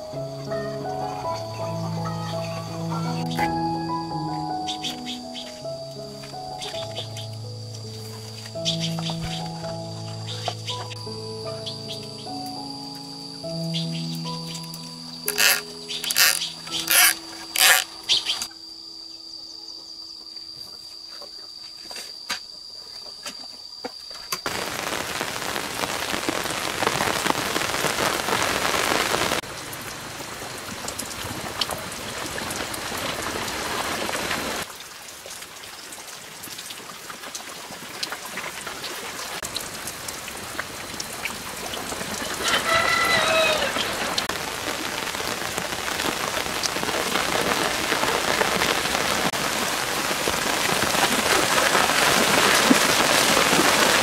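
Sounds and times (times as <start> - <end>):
steady rain: 0.0 - 18.6, 24.4 - 54.0.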